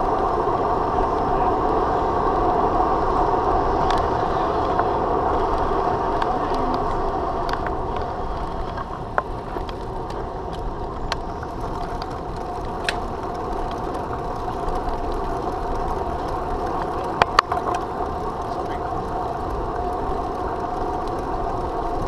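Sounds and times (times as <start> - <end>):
bicycle clicks and rattles: 0.0 - 22.0
road and wind noise: 0.0 - 22.0.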